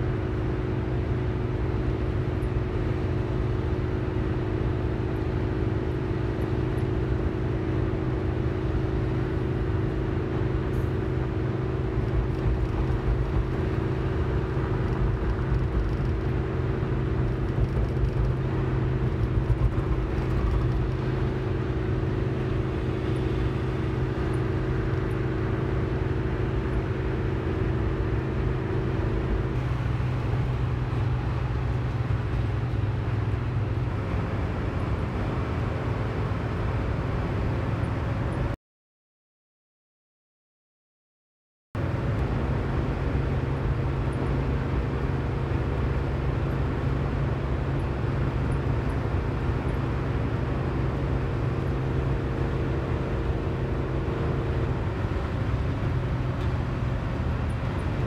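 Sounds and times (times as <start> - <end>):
car engine and road noise: 0.0 - 38.6, 41.8 - 58.0.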